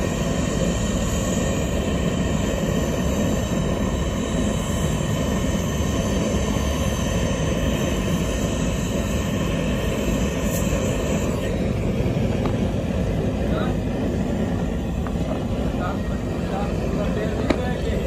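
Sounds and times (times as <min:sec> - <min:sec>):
gas torch burning: 0:00.0 - 0:18.0.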